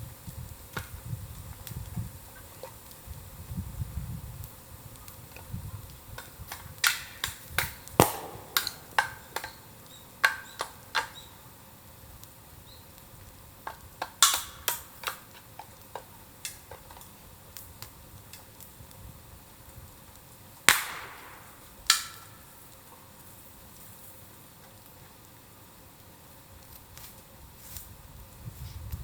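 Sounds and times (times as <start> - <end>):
bamboo fire crackling and popping: 0.0 - 29.0.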